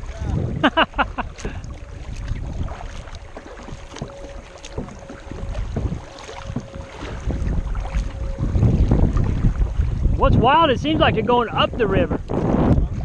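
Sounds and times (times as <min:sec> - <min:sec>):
waves splashing against kayak: 0:00.0 - 0:13.0
wind noise on microphone: 0:00.0 - 0:13.0.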